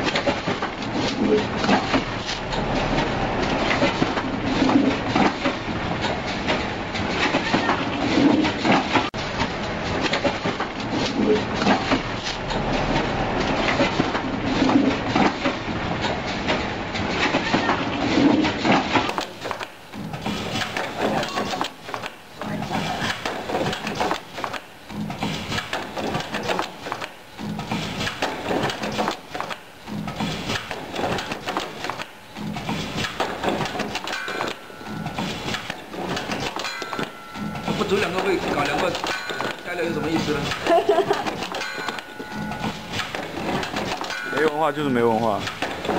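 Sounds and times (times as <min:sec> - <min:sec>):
machine clattering: 0:00.0 - 0:45.9.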